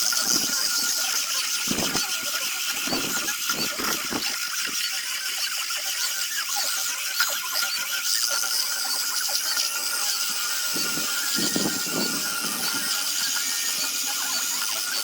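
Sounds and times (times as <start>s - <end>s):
electric sander on wood: 0.0s - 15.0s.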